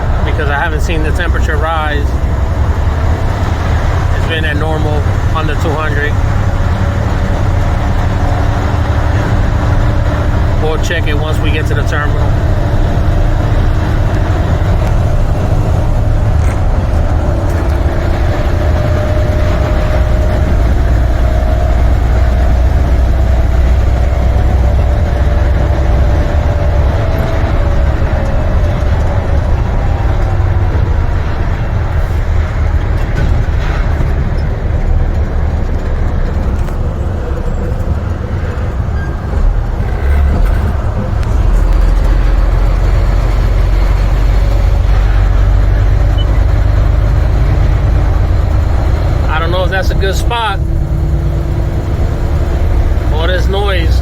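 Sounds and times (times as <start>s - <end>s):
diesel engine rumble: 0.0s - 54.0s
road noise: 0.0s - 54.0s.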